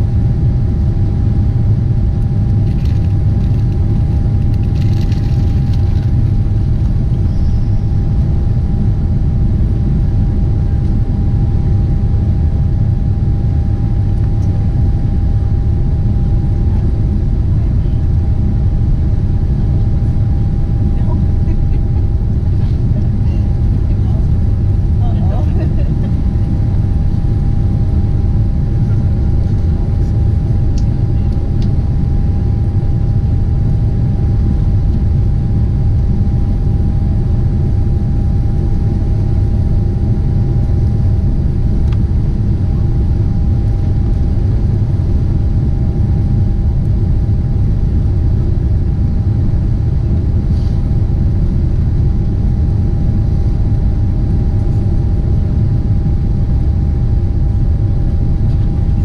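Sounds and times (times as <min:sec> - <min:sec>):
aircraft engine rumble: 0:00.0 - 0:59.0
constant thin hum: 0:00.0 - 0:59.0.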